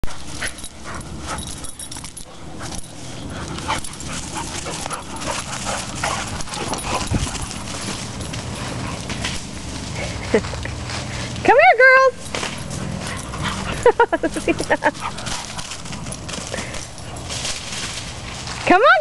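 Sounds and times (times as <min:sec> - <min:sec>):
dogs yipping and barking: 0:00.0 - 0:10.2, 0:12.3 - 0:17.9.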